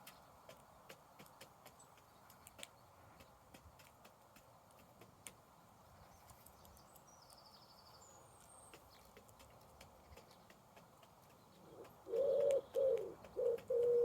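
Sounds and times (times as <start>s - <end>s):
birds pecking at feed: 0.0s - 14.0s.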